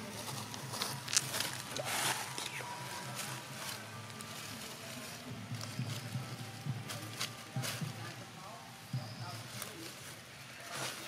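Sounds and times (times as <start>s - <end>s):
dry leaves rustling and crackling: 0.0s - 11.0s.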